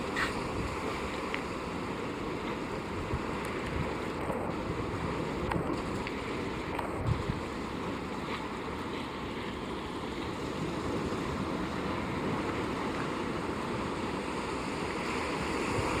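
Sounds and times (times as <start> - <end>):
rushing water: 0.0 - 16.0
wind: 0.0 - 16.0.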